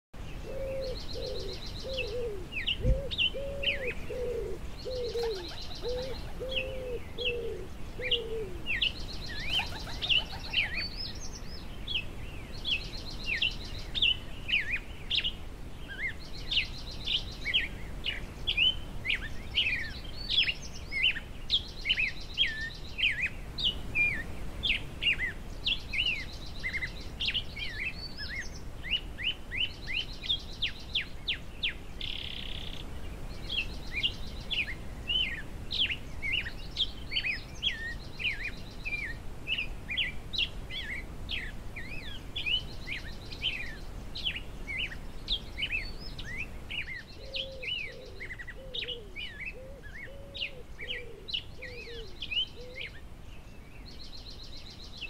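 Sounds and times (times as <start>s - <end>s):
songbirds singing: 0.2s - 55.0s.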